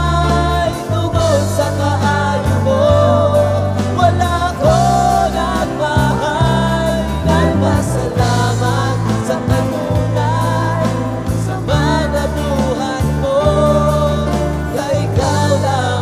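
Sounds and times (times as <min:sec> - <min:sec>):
acoustic guitar: 0:00.0 - 0:16.0
backing harmony voices: 0:00.0 - 0:16.0
electric bass: 0:00.0 - 0:16.0
keyboard: 0:00.0 - 0:16.0
man singing lead: 0:00.0 - 0:16.0.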